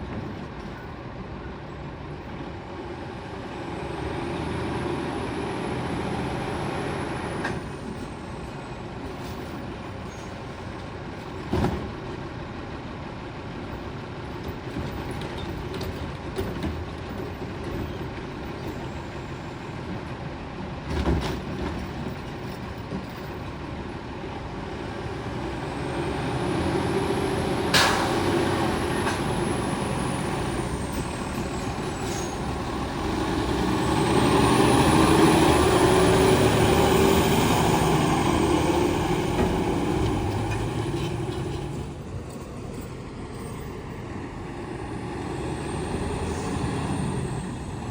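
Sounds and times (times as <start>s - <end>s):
garbage truck diesel drone: 0.1s - 47.9s.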